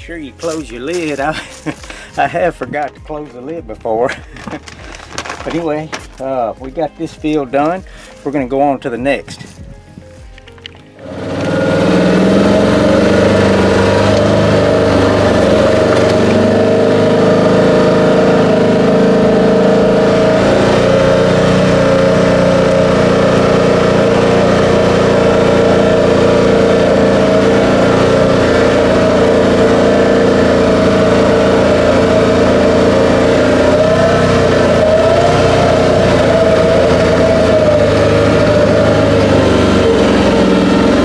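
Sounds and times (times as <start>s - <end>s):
vehicle engine running: 0.0s - 8.4s, 10.4s - 41.0s.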